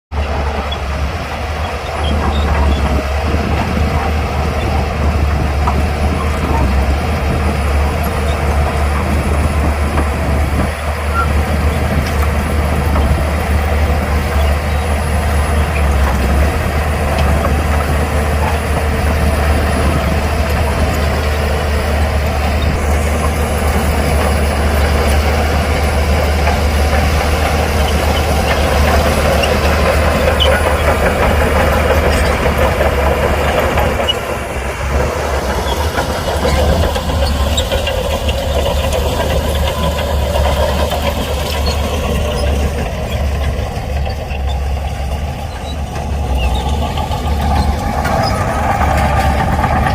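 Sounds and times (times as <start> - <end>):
heavy diesel engine droning: 0.1 - 49.9.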